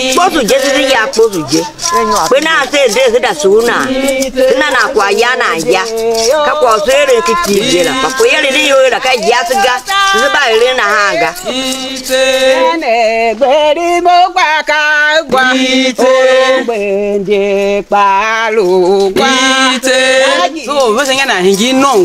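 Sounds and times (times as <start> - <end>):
person singing a chant: 0.0 - 22.0.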